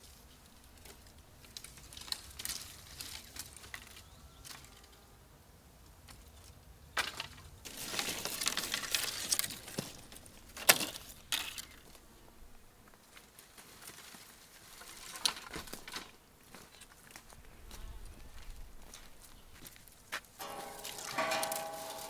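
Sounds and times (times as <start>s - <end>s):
rustling and crinkling: 0.0s - 5.0s, 6.0s - 22.0s.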